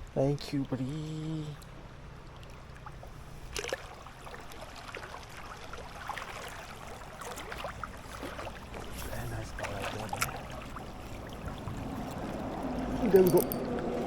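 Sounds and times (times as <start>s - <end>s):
river water running: 0.0s - 14.0s.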